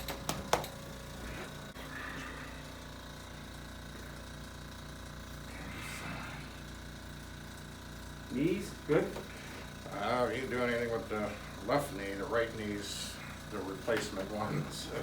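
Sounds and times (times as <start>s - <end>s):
pulsing mechanical hum: 0.0s - 15.0s.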